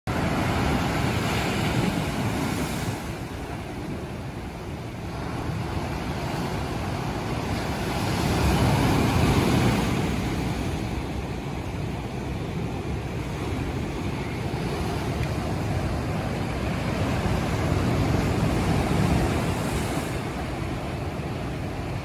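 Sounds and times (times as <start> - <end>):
sea waves breaking on rocks and shore: 0.1 - 22.0.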